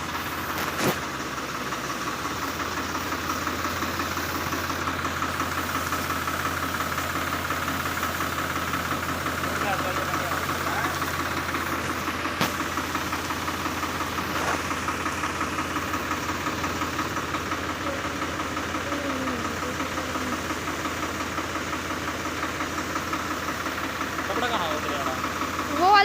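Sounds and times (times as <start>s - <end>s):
harvester engine running: 0.0s - 26.0s.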